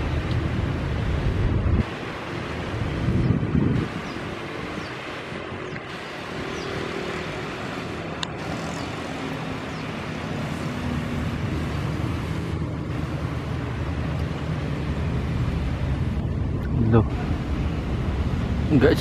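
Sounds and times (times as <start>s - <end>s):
jet airliner engines on approach: 0.0s - 19.0s.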